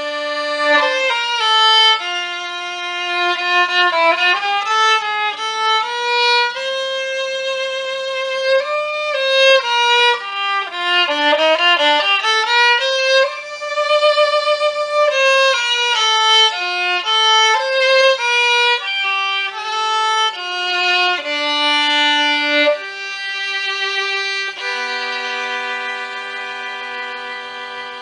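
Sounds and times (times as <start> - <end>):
solo fiddle melody: 0.0 - 28.0.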